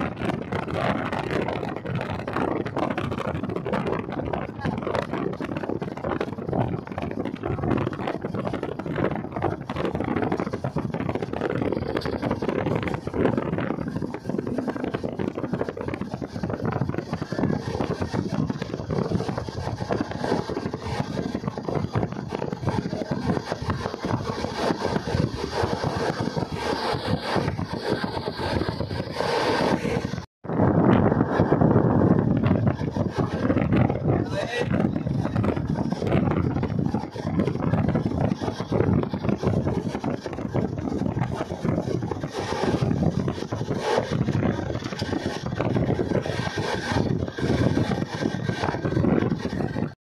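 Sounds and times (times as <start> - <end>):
passenger train rumbling: 0.0 - 50.0
wheels rattling and clattering: 0.0 - 50.0.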